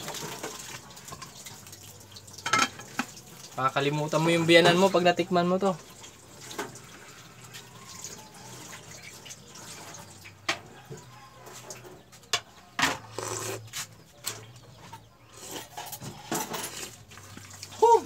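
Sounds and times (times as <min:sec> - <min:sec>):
pot boiling under lid: 0:00.0 - 0:18.0.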